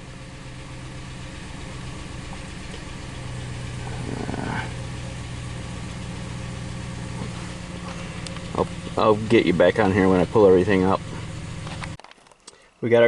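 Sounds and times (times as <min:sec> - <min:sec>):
misfiring engine idling: 0:00.0 - 0:13.0.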